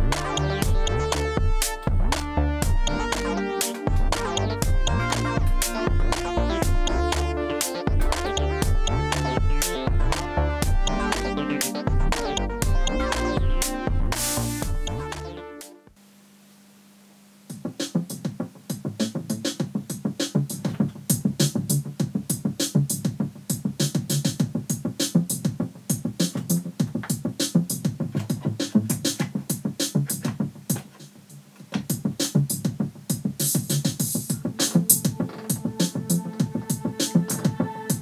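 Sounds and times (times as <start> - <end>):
electronic music with drum-machine beat: 0.0 - 15.9, 17.5 - 38.0.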